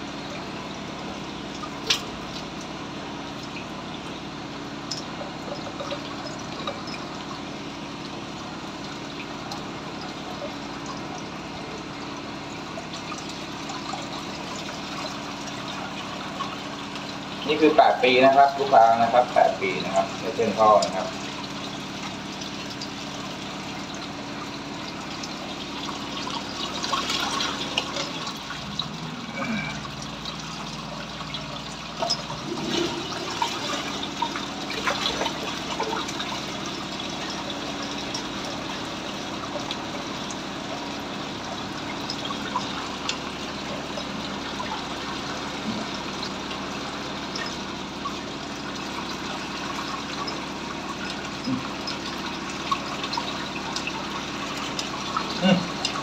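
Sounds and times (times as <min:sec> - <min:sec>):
low steady hum: 0:00.0 - 0:56.0
water pouring into drain: 0:00.0 - 0:56.0.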